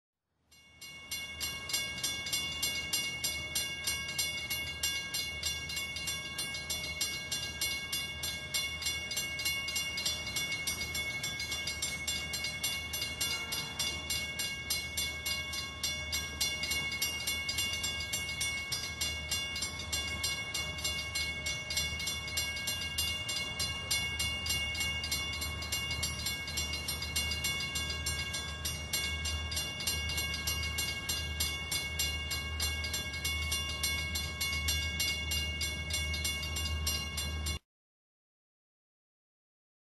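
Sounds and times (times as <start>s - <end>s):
steady high tones: 0.8s - 37.6s
diesel locomotive engine drone: 1.5s - 37.6s.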